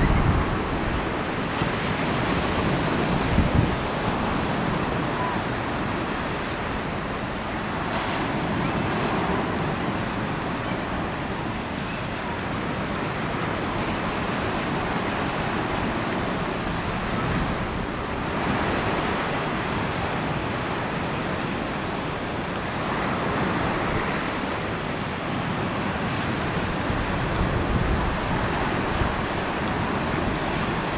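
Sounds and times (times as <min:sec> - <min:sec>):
waves breaking in surf: 0:00.0 - 0:30.9
wind blowing across microphone: 0:00.0 - 0:30.9.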